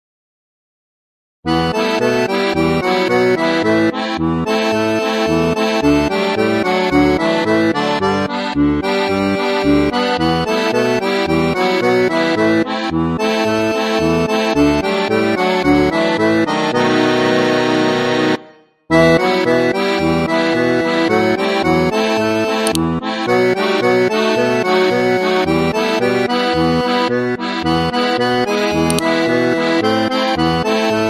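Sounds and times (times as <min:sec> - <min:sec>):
button accordion playing lively tune: 0:01.5 - 0:31.0.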